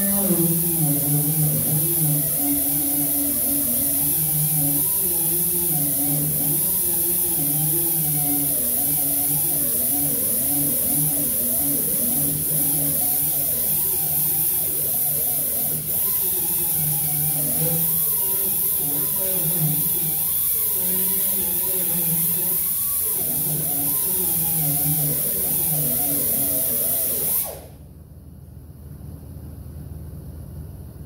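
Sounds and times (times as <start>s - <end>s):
power grinder on sheet metal: 0.0s - 27.6s
steady high hiss: 0.0s - 31.0s.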